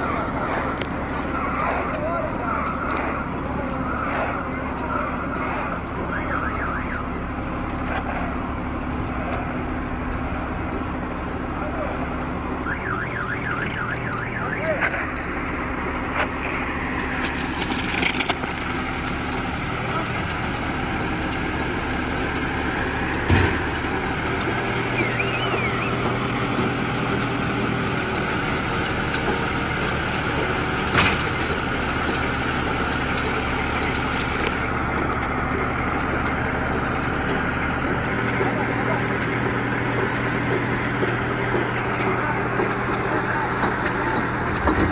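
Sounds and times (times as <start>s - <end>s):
baling machinery clatter: 0.0s - 44.9s
tractor engine drone: 0.0s - 44.9s.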